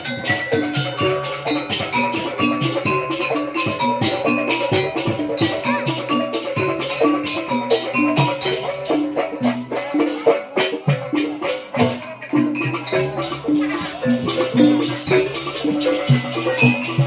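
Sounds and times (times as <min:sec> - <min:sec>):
drum strokes: 0:00.0 - 0:17.0
ringing metal percussion notes: 0:00.0 - 0:17.0.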